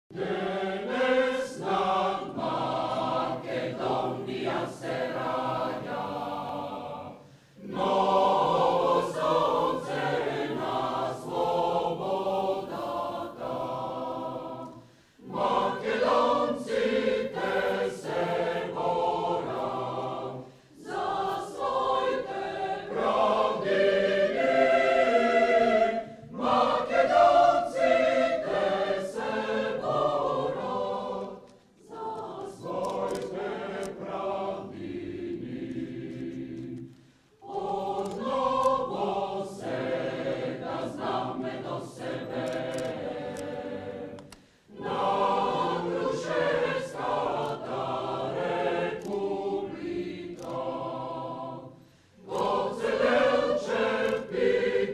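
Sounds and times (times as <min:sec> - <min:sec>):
mixed choir singing: 0:00.0 - 0:54.9.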